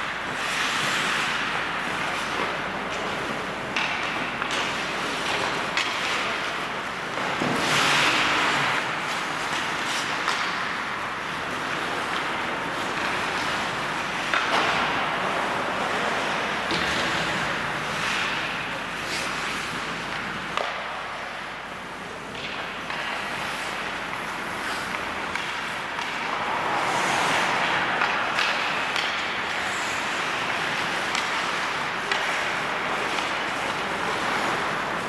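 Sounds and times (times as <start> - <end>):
sticks striking puck: 0.0 - 21.5, 22.3 - 35.0
skate blades scraping ice: 0.0 - 35.0.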